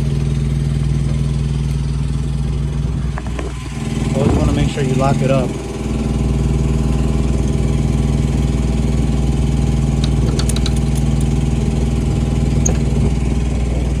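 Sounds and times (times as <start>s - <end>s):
generator running: 0.0s - 14.0s.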